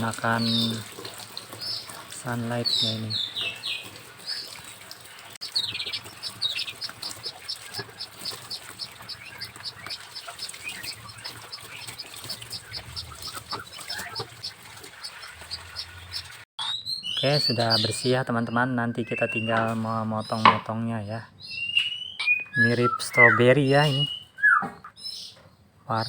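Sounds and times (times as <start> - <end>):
songbird chirping: 0.0 - 0.9, 1.5 - 4.8, 5.4 - 26.0.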